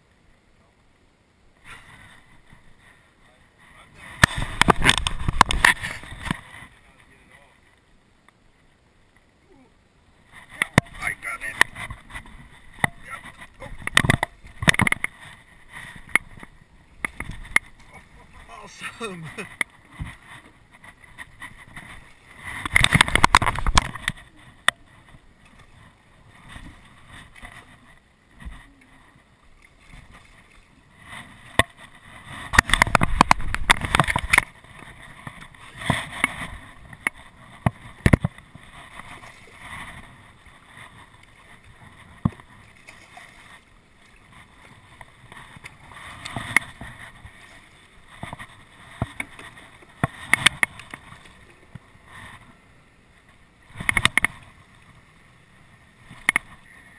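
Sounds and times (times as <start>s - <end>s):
fish splashing and thrashing: 4.0s - 6.7s, 10.3s - 28.8s, 29.5s - 55.1s.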